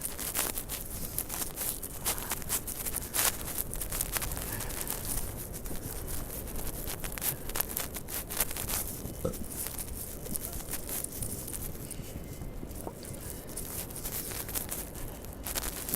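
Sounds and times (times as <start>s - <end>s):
city noise: 0.0s - 15.9s
footsteps crunching in snow: 0.0s - 15.9s
wind rumble: 0.0s - 15.9s.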